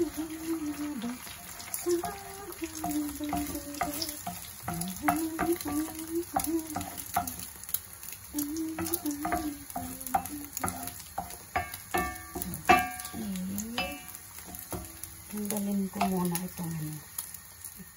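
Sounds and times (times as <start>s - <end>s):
eggs sizzling in hot oil: 0.0s - 17.9s.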